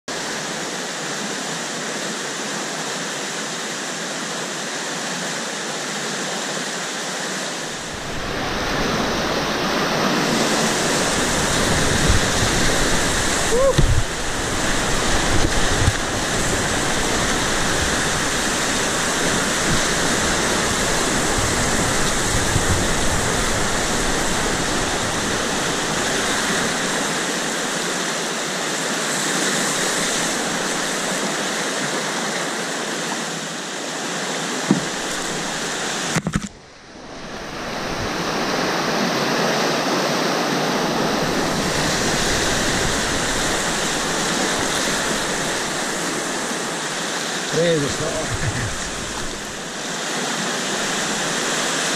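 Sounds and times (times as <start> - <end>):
whitewater roaring around canoe: 0.1 - 51.9.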